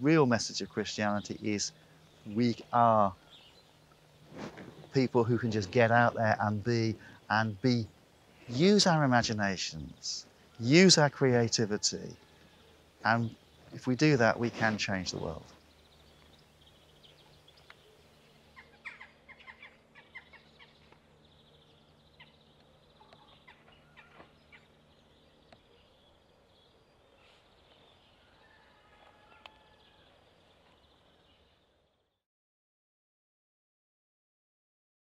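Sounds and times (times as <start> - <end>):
low steady hum: 0.0 - 32.0
birds chirping: 0.0 - 32.2.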